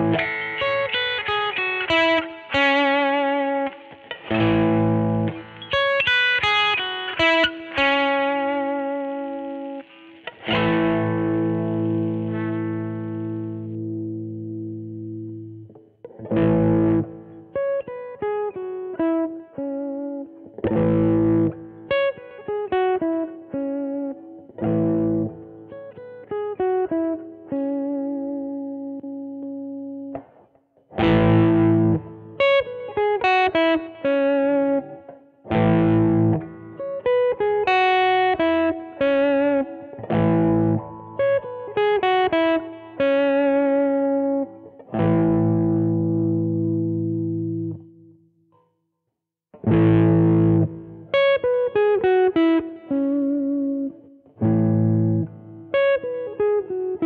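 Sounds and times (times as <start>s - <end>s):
electric guitar strumming and picking: 0.0s - 48.2s, 49.6s - 57.0s.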